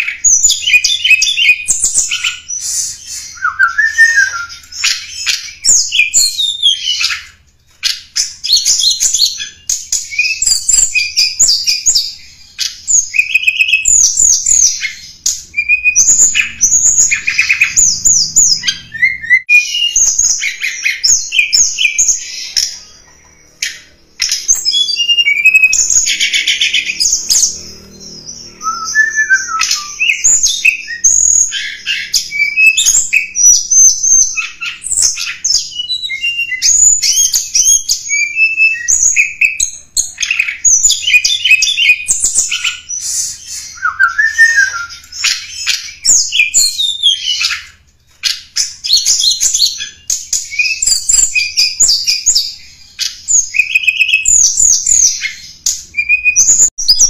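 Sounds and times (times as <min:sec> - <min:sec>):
songbird chirps and trills: 0:00.0 - 0:57.0.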